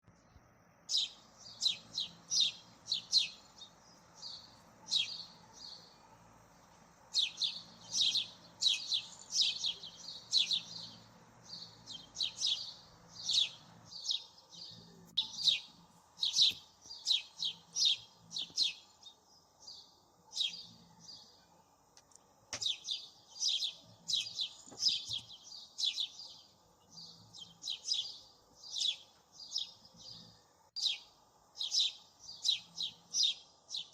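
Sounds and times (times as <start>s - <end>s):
small bird chirping: 0.1s - 33.9s.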